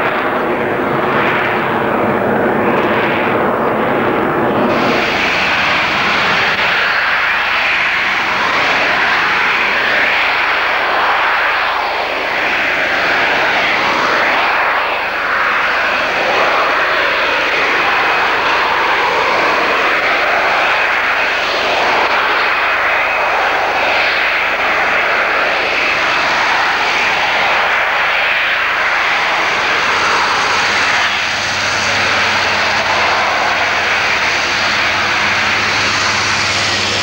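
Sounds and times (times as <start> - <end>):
jet engine roaring in hover: 0.0 - 37.0.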